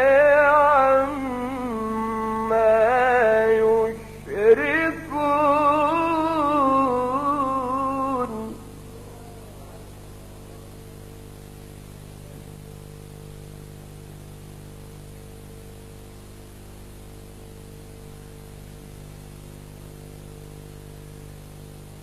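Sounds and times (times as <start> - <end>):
electrical hum: 0.0 - 22.0
recording hiss: 0.0 - 22.0.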